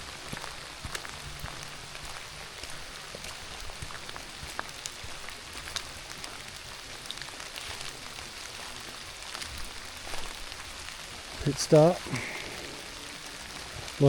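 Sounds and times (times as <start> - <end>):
raindrops ticking: 0.0 - 14.0
steady rain falling: 0.0 - 14.0.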